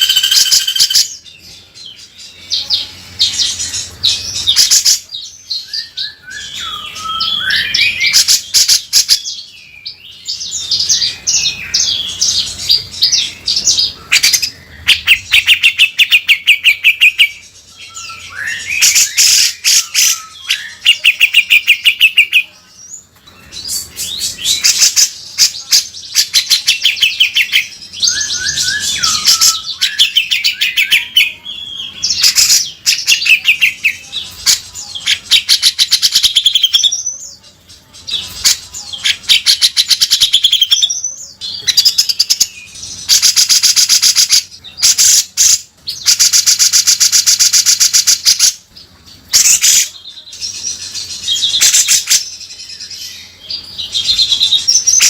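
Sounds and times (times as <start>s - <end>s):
bulbul singing rasping phrases: 0.0s - 55.0s.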